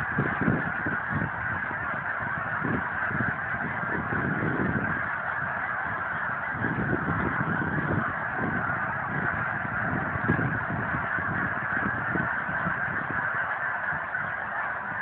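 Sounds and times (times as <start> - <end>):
large flock of birds calling: 0.0 - 15.0.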